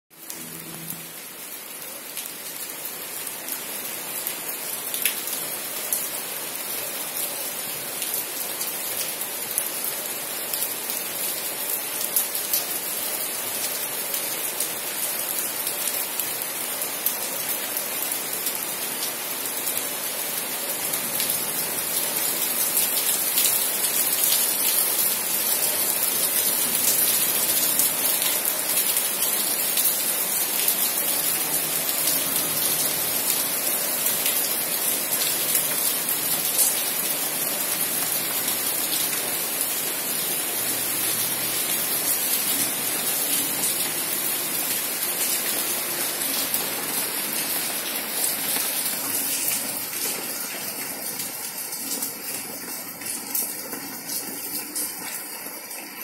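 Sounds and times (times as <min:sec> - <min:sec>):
steady rain falling: 0:00.1 - 0:56.0.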